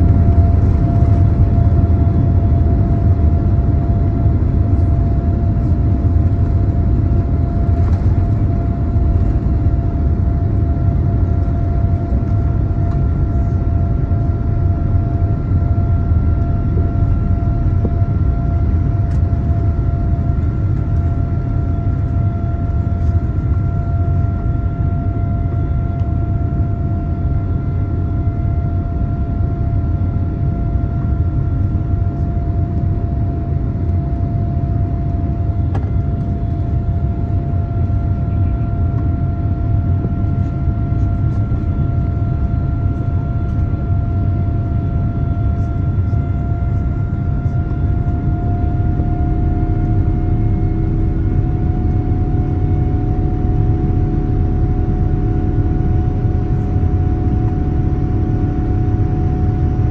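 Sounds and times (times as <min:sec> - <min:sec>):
airplane cabin engine roar: 0:00.0 - 0:59.9
jet engine whine: 0:00.0 - 0:59.9.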